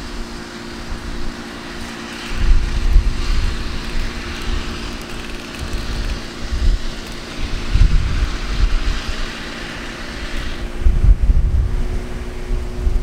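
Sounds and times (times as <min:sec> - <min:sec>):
rail vehicle engine droning: 0:00.0 - 0:13.0
wind gusts on microphone: 0:02.3 - 0:13.0.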